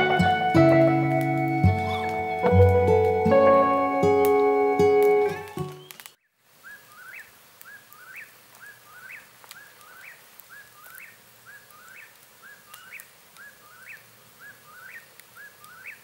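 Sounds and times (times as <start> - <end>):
bird calling: 0.0 - 16.0
campfire crackling: 0.0 - 16.0.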